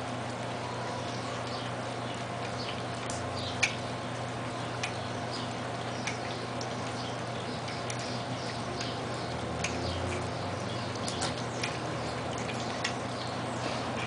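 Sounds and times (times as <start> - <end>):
puppies lapping and chewing: 0.0 - 14.0
steady low hum: 0.0 - 14.0.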